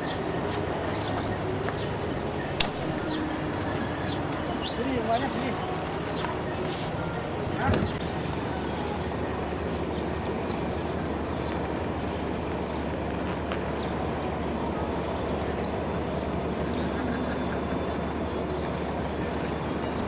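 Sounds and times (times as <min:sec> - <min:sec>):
diesel lorry engine idling: 0:00.0 - 0:20.0.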